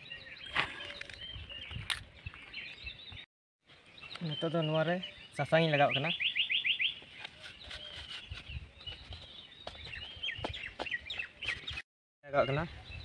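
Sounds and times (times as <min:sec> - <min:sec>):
low outdoor background: 0:00.0 - 0:13.0
small birds chirping: 0:00.0 - 0:13.0.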